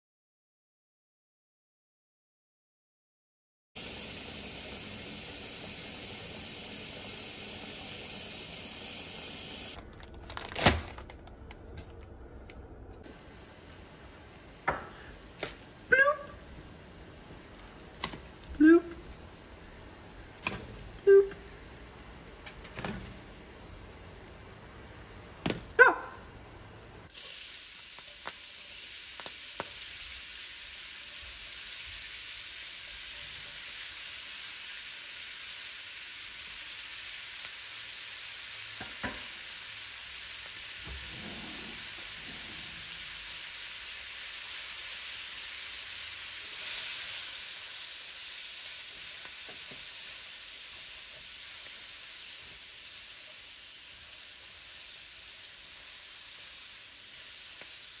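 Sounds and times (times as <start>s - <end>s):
food sizzling in a wok: 3.8s - 9.8s, 13.0s - 25.4s, 26.3s - 58.0s.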